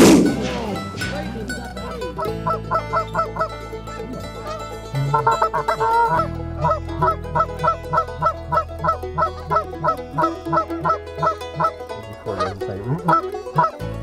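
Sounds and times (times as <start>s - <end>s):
geese honking: 2.0s - 14.0s.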